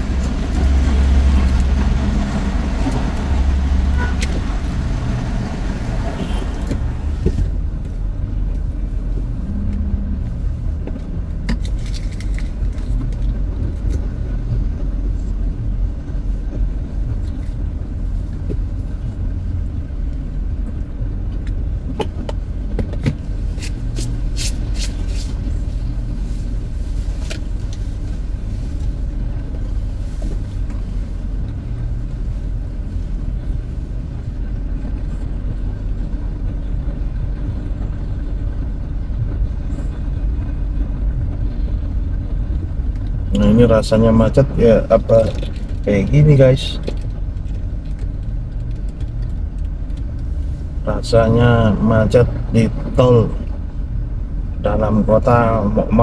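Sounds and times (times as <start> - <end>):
car engine rumble from inside cabin: 0.0 - 56.0.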